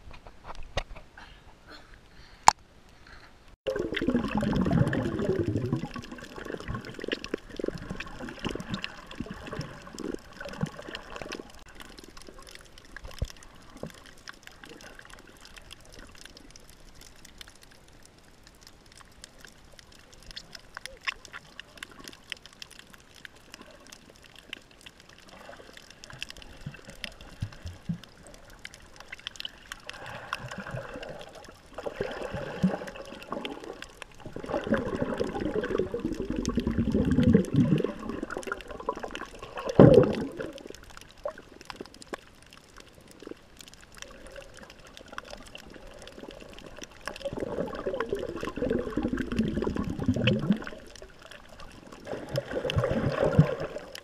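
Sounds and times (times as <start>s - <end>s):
faint steady crackle: 0.0s - 54.0s
water gurgling and sloshing: 3.7s - 54.0s.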